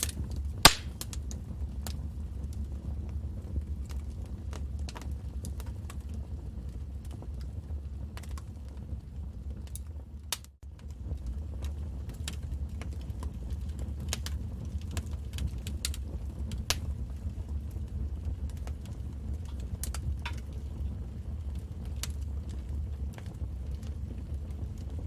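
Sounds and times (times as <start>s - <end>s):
low fire rumble: 0.0s - 25.0s
wood fire crackling: 0.0s - 25.0s.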